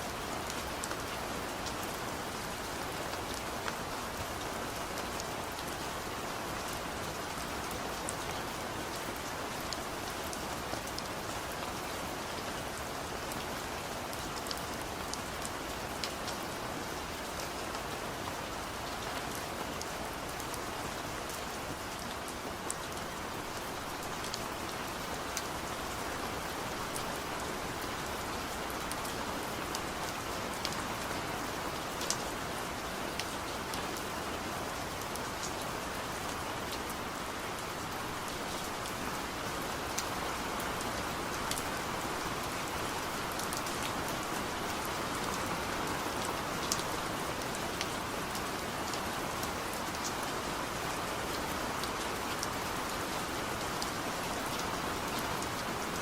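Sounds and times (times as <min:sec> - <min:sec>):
steady rain: 0:00.0 - 0:56.0
raindrops ticking on a surface: 0:00.2 - 0:56.0.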